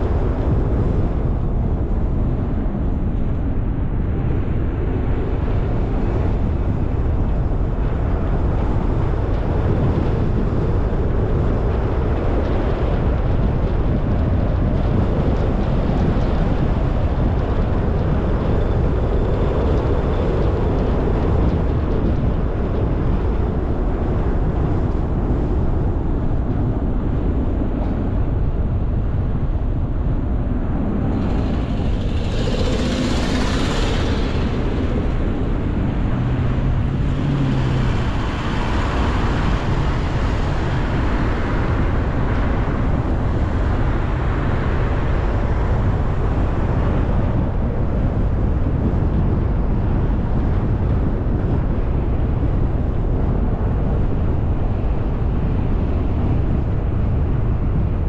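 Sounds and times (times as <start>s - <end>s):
road rumble: 0.0s - 58.0s
wind noise: 0.0s - 58.0s.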